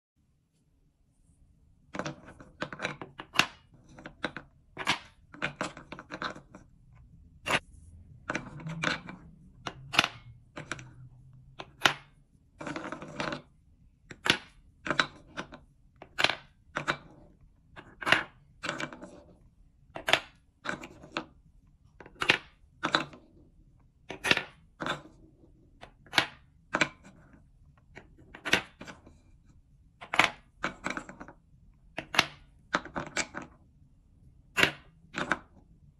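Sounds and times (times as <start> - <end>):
wooden balls clacking: 2.0 - 6.8, 8.2 - 13.5, 14.1 - 23.4, 24.0 - 29.2, 30.0 - 33.6, 34.5 - 35.6.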